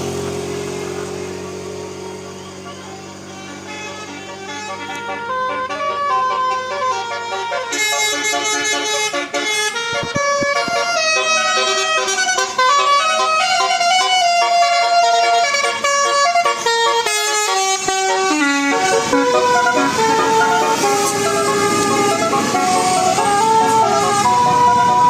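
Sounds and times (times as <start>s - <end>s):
multi-tone bus air horn tune: 0.0s - 25.0s.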